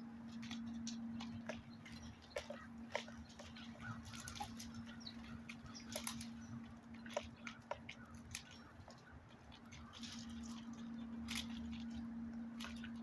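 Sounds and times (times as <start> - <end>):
low hum: 0.0 - 13.0
birds pecking taps: 0.2 - 13.0.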